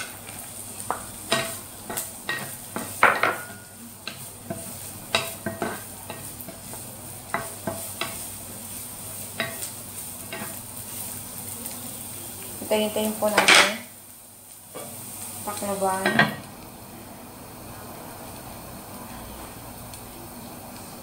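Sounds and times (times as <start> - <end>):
oil sizzling: 0.0 - 21.0.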